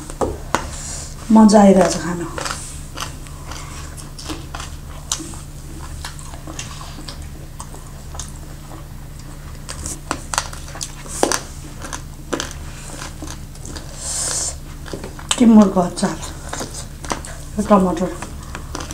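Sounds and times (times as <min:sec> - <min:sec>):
steady low hum: 0:00.0 - 0:18.9
chewing with wet clicks: 0:01.8 - 0:18.9.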